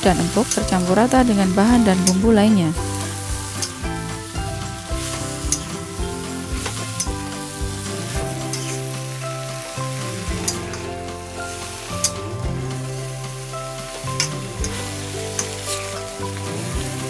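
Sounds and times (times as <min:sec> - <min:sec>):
stir-fry sizzling: 0:00.0 - 0:17.0.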